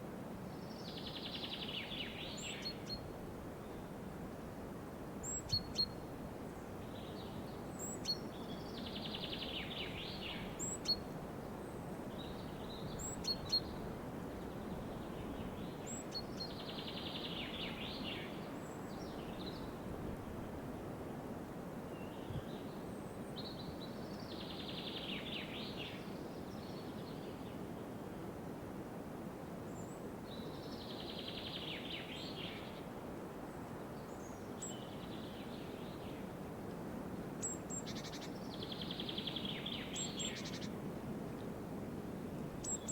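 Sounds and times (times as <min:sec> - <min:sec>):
steady background hiss: 0:00.0 - 0:42.9.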